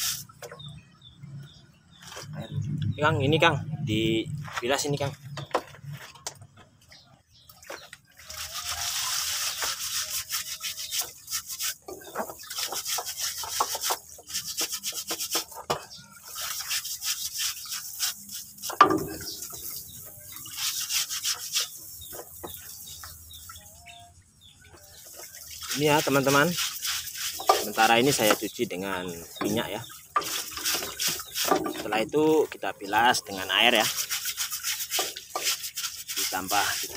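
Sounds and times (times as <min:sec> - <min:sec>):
scrubbing and splashing in oil: 0:00.0 - 0:00.9, 0:05.1 - 0:23.8, 0:24.6 - 0:36.9.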